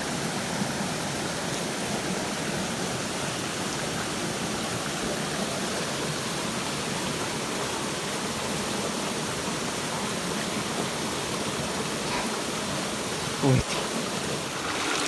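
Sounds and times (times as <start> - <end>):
stream water rushing: 0.4 - 15.0.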